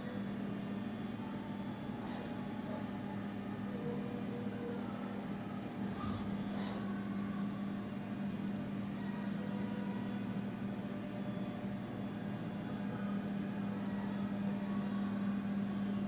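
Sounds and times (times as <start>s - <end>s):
faint high whines: 0.0s - 16.0s.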